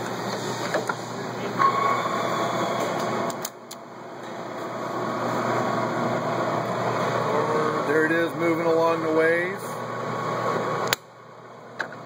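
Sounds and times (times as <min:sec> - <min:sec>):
lathe humming and whining: 0:00.0 - 0:12.0.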